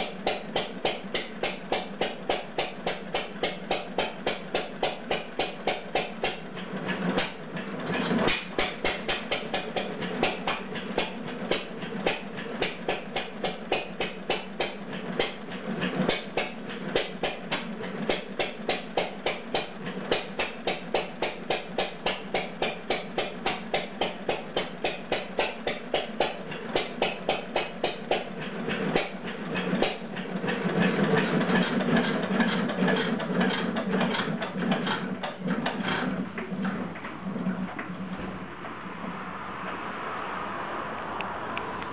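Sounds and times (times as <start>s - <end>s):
stationary gas engine running: 0.0s - 41.9s.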